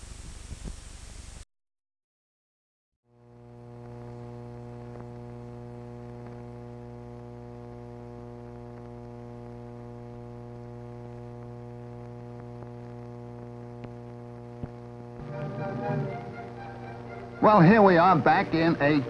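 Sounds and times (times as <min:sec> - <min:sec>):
steady electrical hum: 0:03.2 - 0:19.0.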